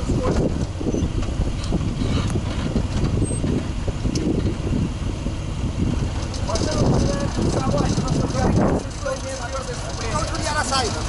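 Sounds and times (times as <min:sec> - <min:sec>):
engine and tyres rumbling in cabin: 0:00.0 - 0:11.0.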